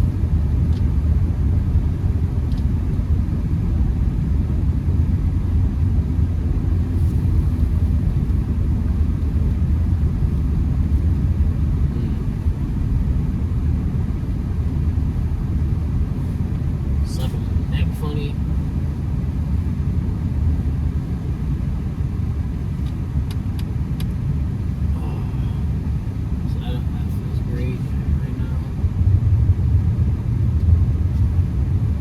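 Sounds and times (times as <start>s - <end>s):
car engine and tyre noise: 0.0s - 32.0s.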